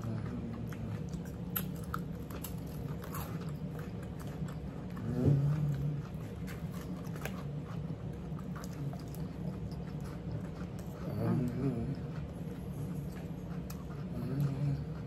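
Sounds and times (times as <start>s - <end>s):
chewing and biting food: 0.0s - 15.0s.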